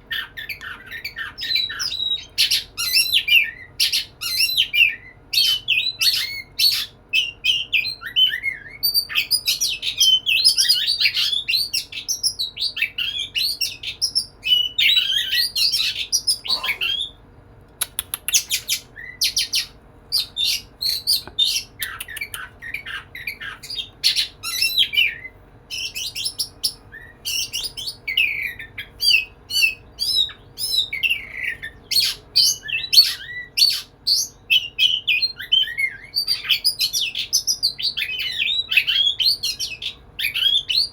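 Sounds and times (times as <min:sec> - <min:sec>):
bird singing whistles and chirps: 0:00.1 - 0:17.2, 0:18.3 - 0:40.9.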